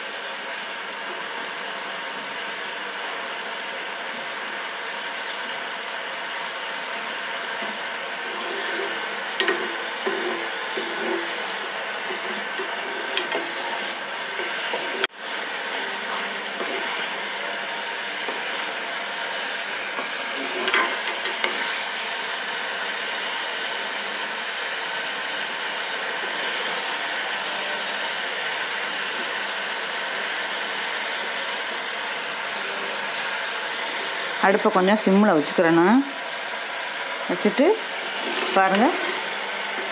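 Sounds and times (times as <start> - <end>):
cream bubbling in a pan: 0.0 - 39.9.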